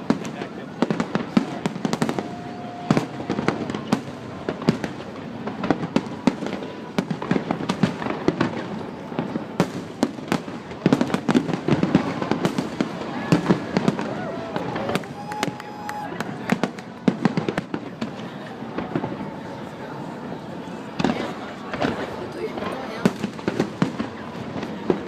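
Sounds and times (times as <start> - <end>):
fireworks crackle: 0.0 - 19.9, 20.8 - 25.0
fireworks bangs: 0.0 - 25.0.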